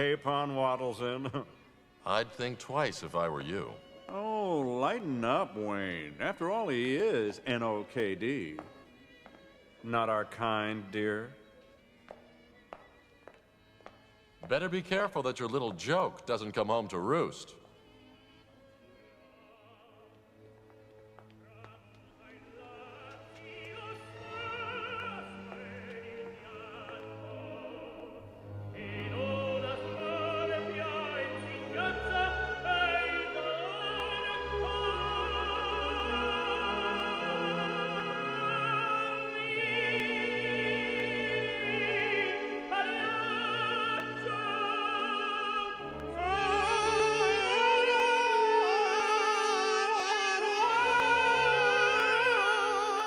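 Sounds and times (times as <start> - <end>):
operatic singing: 0.0 - 11.4, 18.9 - 53.0.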